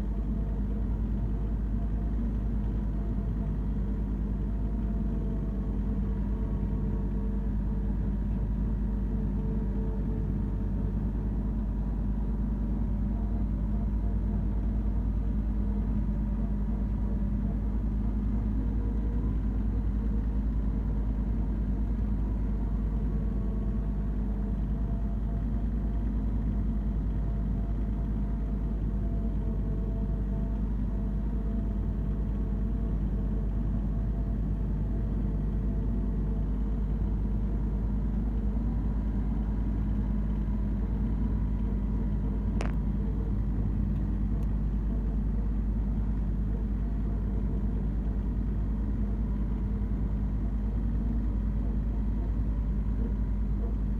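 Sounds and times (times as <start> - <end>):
tractor diesel engine droning: 0.0 - 53.9.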